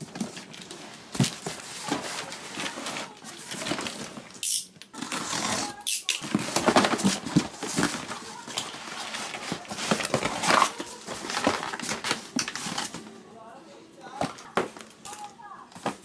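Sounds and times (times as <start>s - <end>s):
cardboard scraping and rustling: 0.0s - 13.2s.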